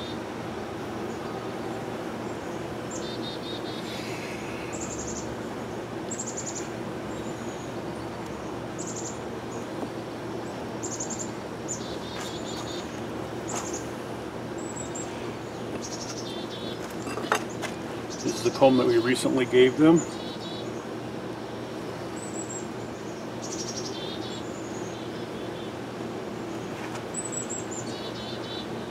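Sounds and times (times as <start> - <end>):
honeybees humming: 0.0 - 28.9.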